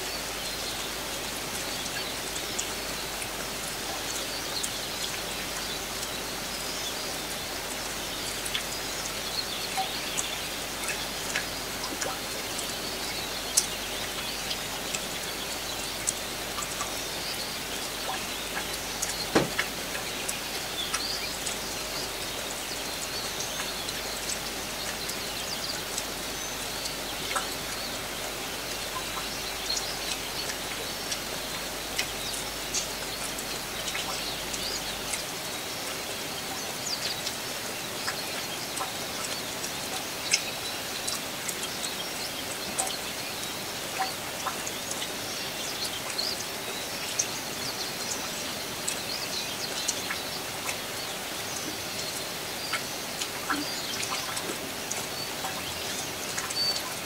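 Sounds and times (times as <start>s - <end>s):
light rain: 0.0s - 57.0s
small birds chirping: 0.0s - 57.0s.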